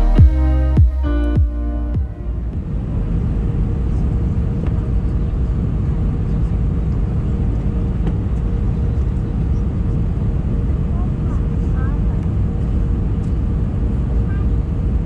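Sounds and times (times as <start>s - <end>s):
airplane cabin engine rumble: 0.0s - 15.0s
constant hum: 0.0s - 15.0s.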